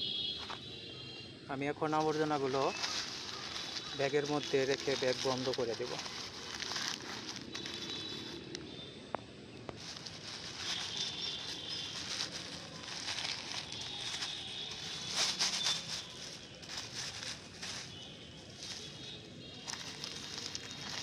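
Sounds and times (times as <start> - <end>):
plastic bag rustling: 1.8 - 8.7, 9.7 - 21.0.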